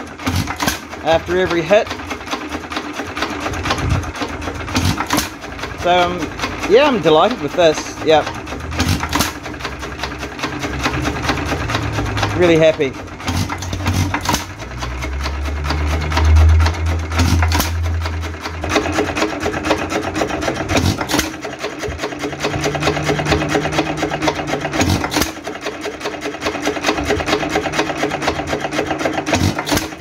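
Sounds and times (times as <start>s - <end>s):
single-cylinder engine clattering: 0.0s - 30.0s.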